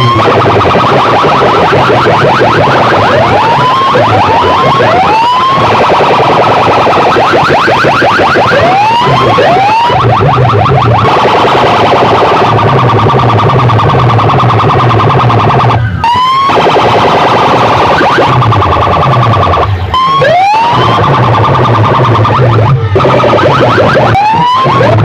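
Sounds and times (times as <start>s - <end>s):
distorted loud electronic music: 0.0s - 25.0s
siren-like rising sweeps: 0.0s - 25.0s.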